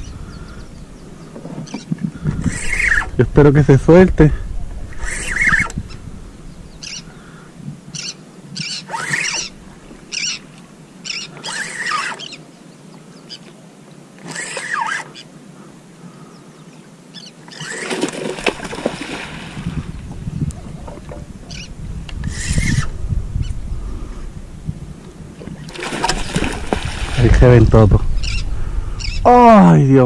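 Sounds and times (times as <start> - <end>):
birds calling: 0.0 - 29.6.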